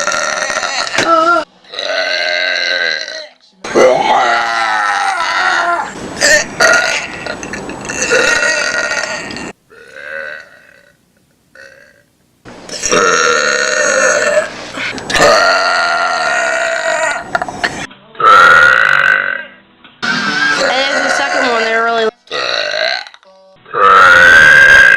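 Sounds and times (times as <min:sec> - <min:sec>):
person burping: 0:00.0 - 0:11.0, 0:12.7 - 0:14.5, 0:15.1 - 0:17.5, 0:18.2 - 0:19.5, 0:20.1 - 0:21.7, 0:22.3 - 0:24.9.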